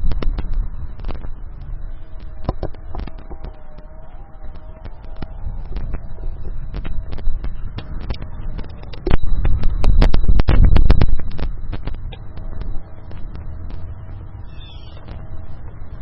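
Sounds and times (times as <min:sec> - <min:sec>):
low rumble: 0:00.0 - 0:16.0
microphone static crackling: 0:00.0 - 0:16.0.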